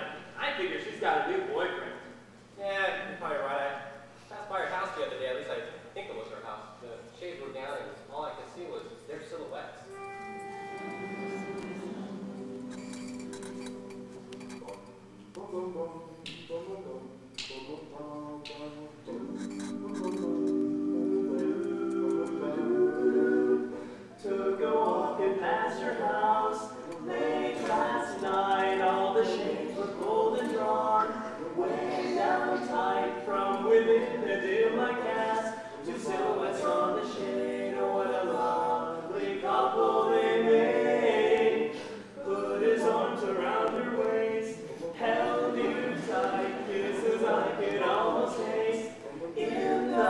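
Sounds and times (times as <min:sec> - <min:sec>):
vocal quartet singing a cappella: 0:00.0 - 0:50.0.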